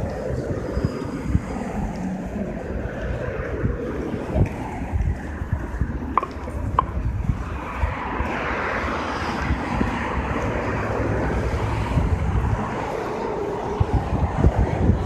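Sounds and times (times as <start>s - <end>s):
passing vehicles road noise: 0.0s - 15.0s
wind buffeting microphone: 0.0s - 15.0s.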